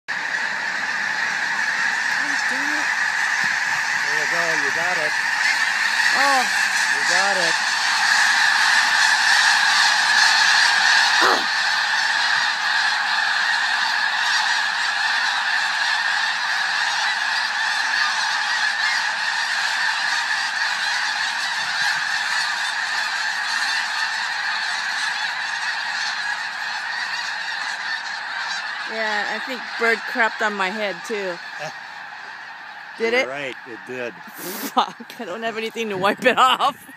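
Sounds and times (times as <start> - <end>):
geese honking in flight: 0.1 - 36.9.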